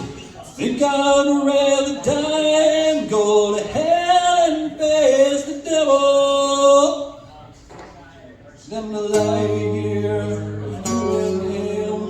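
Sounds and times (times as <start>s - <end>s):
man singing country song: 0.5s - 7.2s, 8.6s - 12.0s.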